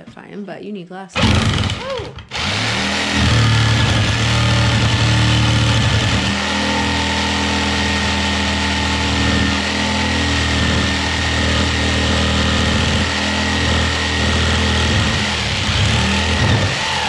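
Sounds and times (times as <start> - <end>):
power saw cutting wood: 1.2 - 17.0.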